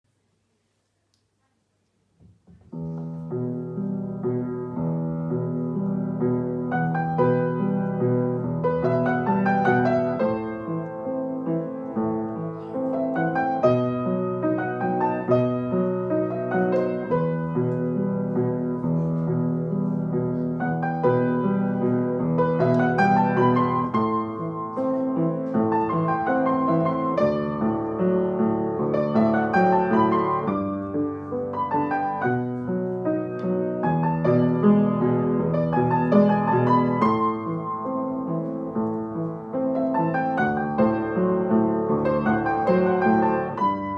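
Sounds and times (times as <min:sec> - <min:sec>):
upright piano playing slow piece: 0:02.6 - 0:43.9.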